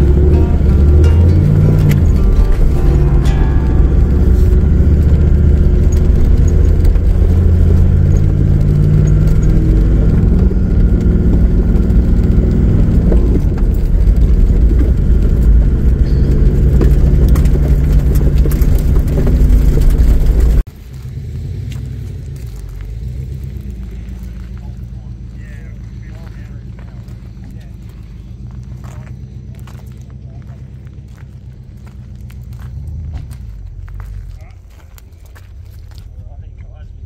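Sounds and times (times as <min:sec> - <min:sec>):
quiet low rumble: 0:00.0 - 0:37.0
vehicle engine rumble: 0:00.0 - 0:37.0.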